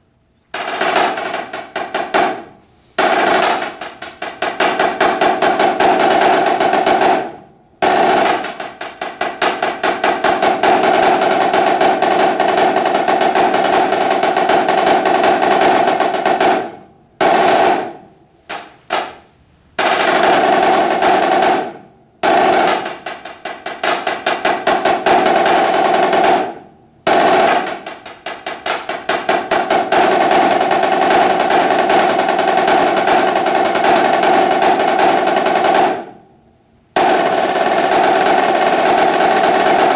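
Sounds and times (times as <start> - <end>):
snare drum rolls: 0.0 - 36.2, 37.0 - 39.9.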